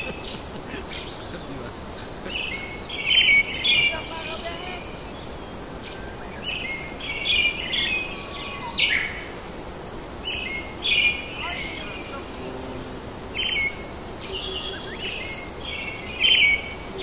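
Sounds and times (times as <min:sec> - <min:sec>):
songbird singing: 0:00.0 - 0:17.0
steady background hiss: 0:00.0 - 0:17.0.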